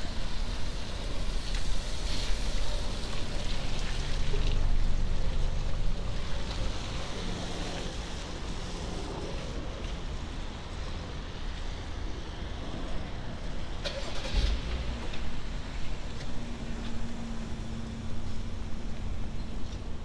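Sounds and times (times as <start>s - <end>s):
low engine rumble: 0.0s - 20.0s
tyres hissing on wet road: 0.0s - 20.0s.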